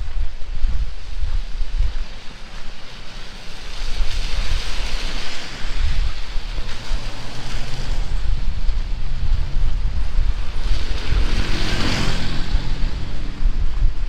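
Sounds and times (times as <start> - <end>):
heavy rain pouring: 0.0 - 14.0
wind buffeting microphone: 0.0 - 14.0.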